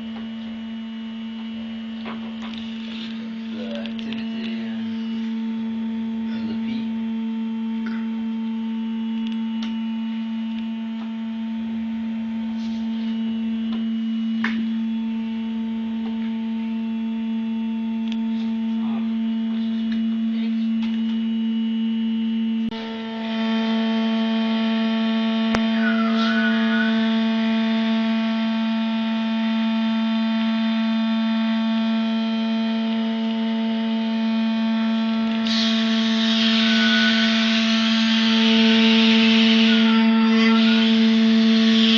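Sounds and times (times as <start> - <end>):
hydraulic test rig humming: 0.0 - 41.9.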